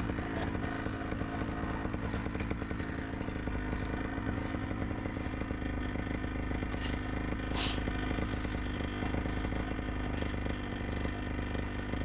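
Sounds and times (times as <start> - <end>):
paramotor engine buzzing: 0.0 - 12.0.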